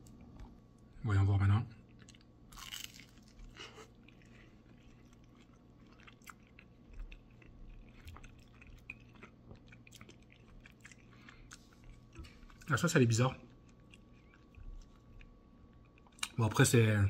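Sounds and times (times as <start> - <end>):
person chewing food: 1.8 - 12.7, 13.4 - 16.4.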